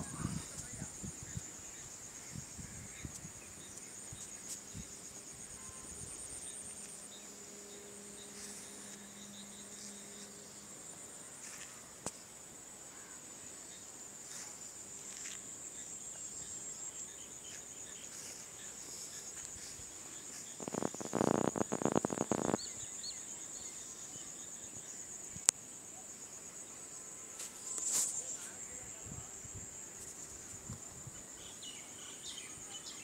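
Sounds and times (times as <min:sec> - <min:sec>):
insects chirring trill: 0:00.0 - 0:33.0.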